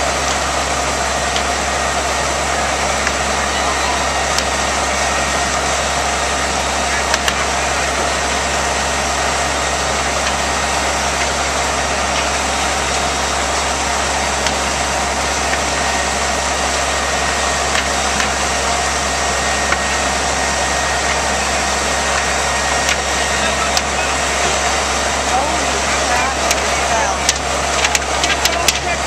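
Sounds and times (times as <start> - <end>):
fire engine running under load: 0.0 - 29.0.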